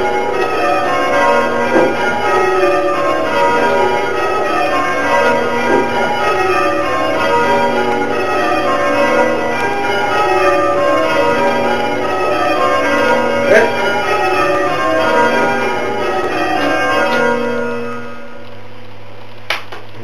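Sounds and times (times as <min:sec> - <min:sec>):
church bells ringing in rounds: 0:00.0 - 0:18.8.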